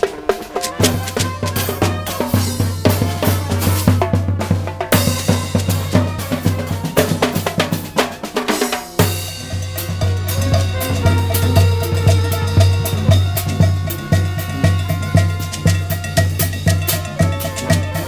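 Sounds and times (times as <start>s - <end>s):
brass horns holding notes: 0.0s - 18.0s
drums beating fast rhythm: 0.0s - 18.0s.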